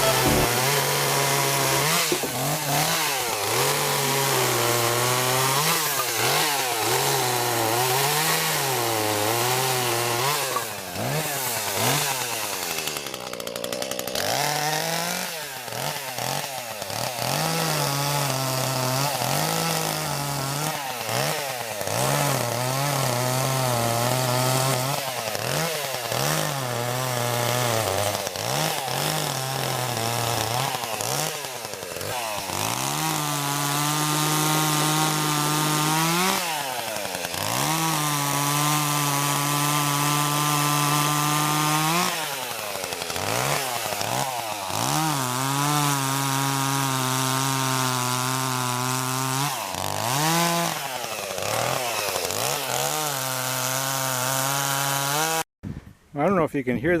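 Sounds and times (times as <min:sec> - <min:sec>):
chainsaw cutting wood: 0:00.0 - 0:55.5.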